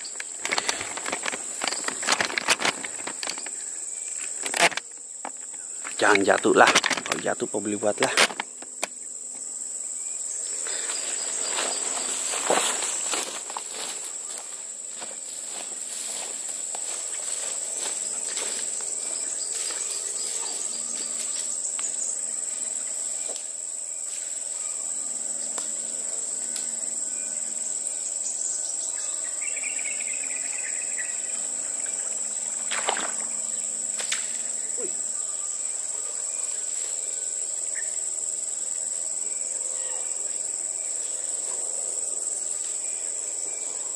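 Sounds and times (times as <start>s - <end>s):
insects buzzing: 0.0s - 43.9s.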